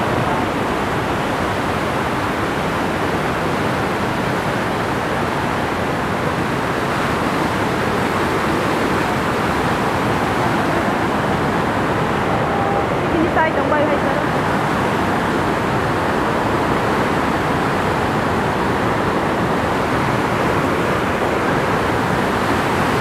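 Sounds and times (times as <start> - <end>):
river water rushing over weir: 0.0 - 23.0.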